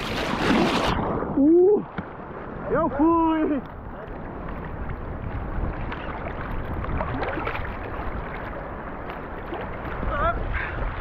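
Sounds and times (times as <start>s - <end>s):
water sloshing and splashing: 0.0s - 2.7s, 3.4s - 11.0s.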